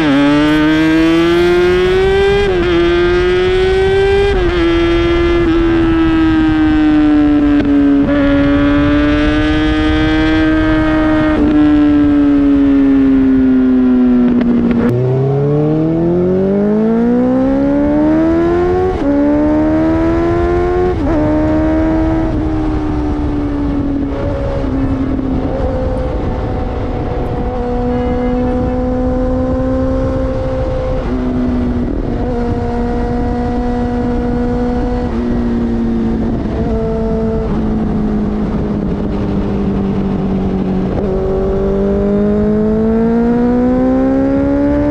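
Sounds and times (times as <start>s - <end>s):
sport bike engine revving: 0.0s - 44.9s.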